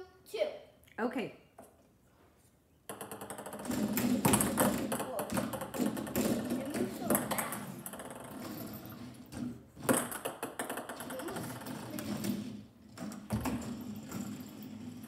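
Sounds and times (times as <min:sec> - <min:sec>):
foosball rods sliding and spinning: 0:02.0 - 0:15.0
plastic players and ball clacking: 0:02.9 - 0:15.0.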